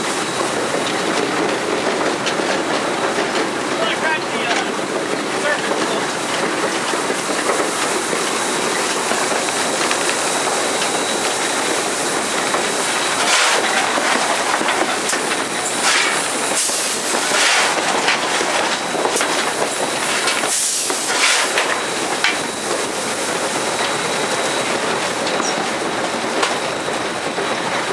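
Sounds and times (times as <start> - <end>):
steam hissing: 0.0 - 27.9
steam locomotive rattle and rush: 0.0 - 27.9.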